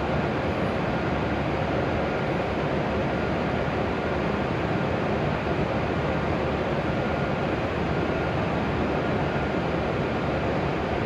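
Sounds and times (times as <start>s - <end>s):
station ambient noise: 0.0s - 11.0s.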